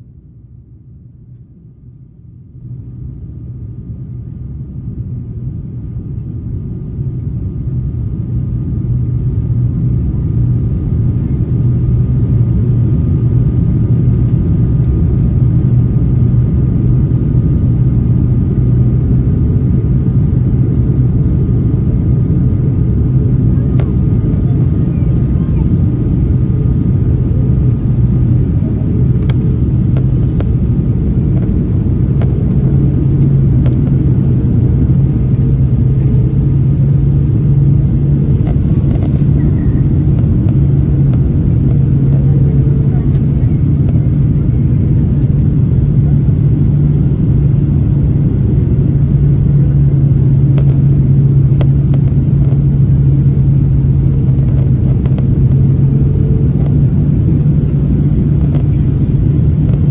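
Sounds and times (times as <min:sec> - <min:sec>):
constant hum: 0:00.0 - 0:59.9
jet engines and airflow rumble: 0:00.0 - 0:59.9.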